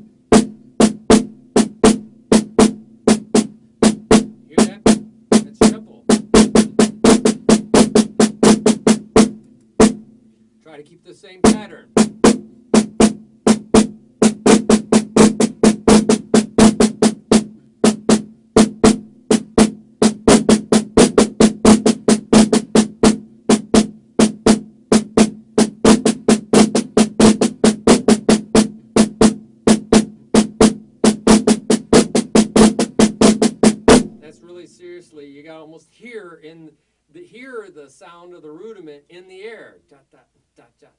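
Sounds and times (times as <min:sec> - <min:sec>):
drumsticks playing on a drum: 0:00.0 - 0:10.5, 0:11.4 - 0:34.5.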